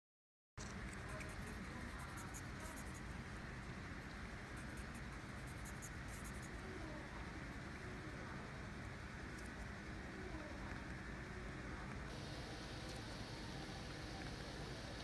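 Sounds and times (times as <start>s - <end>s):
steady low hiss: 0.6s - 15.0s.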